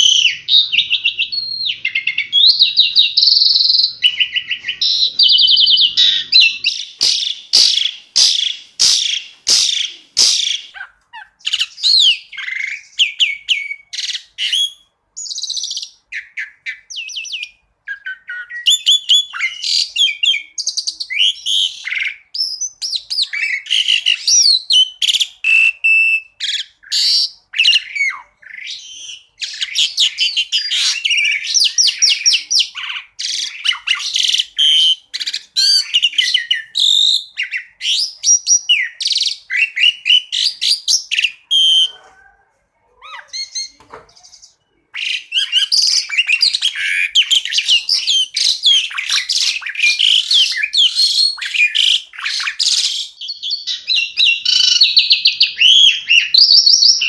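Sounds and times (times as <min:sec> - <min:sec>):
starling singing chirps and trills: 0:00.0 - 0:42.3, 0:43.0 - 0:57.0.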